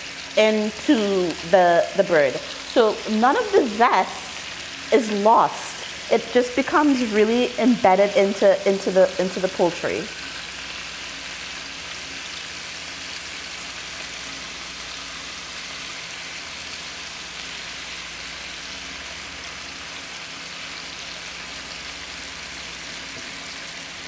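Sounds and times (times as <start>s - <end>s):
chicken sizzling in a skillet: 0.0s - 24.0s.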